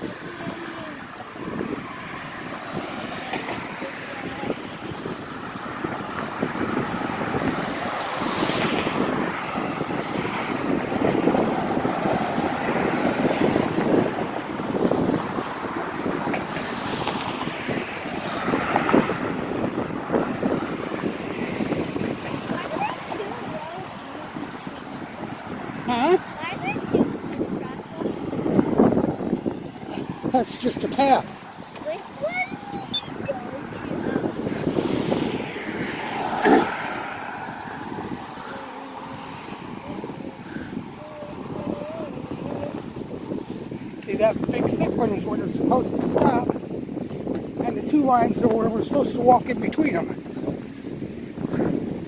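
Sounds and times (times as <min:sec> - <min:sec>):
car driving past: 0:00.0 - 0:44.2
vehicle passing: 0:00.0 - 0:52.0
wind buffeting microphone: 0:00.0 - 0:52.0.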